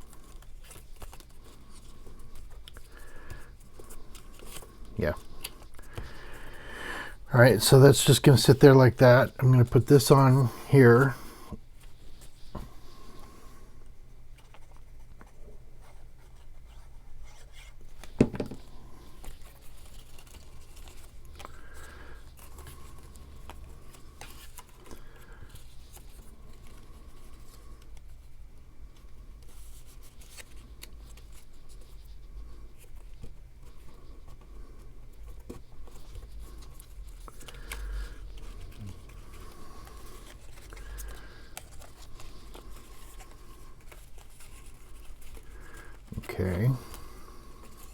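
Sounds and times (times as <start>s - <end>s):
paper rustling: 0.0s - 6.8s, 14.4s - 28.3s, 29.4s - 47.9s.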